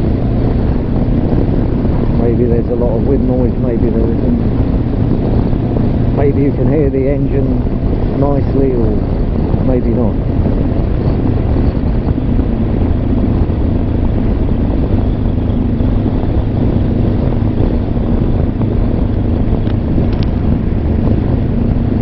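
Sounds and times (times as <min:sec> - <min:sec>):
low wind rumble: 0:00.0 - 0:22.0
motorcycle engine running: 0:00.0 - 0:22.0.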